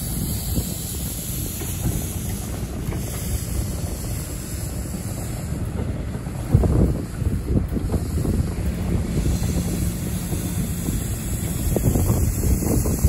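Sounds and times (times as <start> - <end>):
train wheels rumbling on rail: 0.0 - 13.0
wind buffeting microphone: 0.0 - 13.0.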